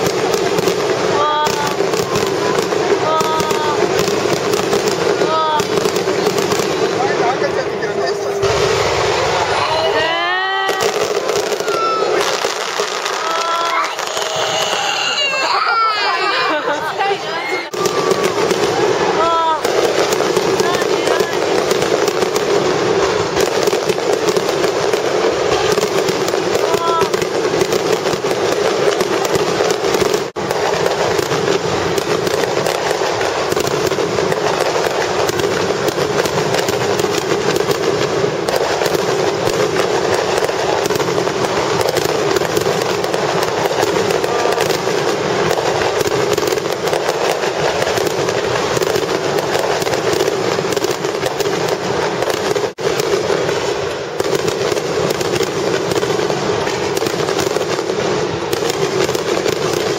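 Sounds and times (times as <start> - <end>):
fireworks bursts and crackling: 0.0 - 59.9.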